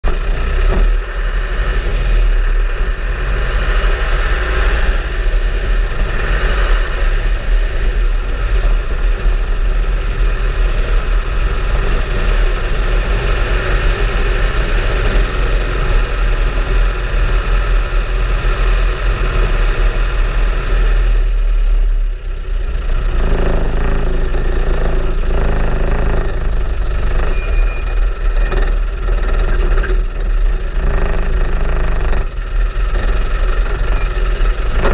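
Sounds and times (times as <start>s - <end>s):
off-road vehicle engine rumbling: 0.0s - 34.9s.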